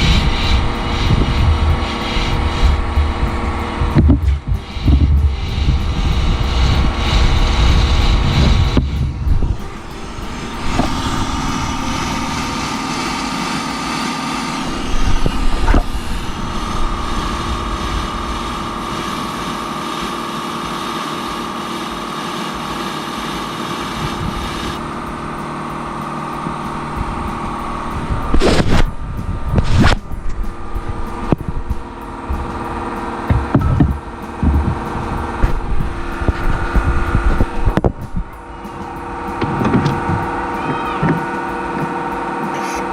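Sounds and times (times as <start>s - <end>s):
held whine: 0.0s - 42.9s
machine rumbling and humming: 0.0s - 42.9s.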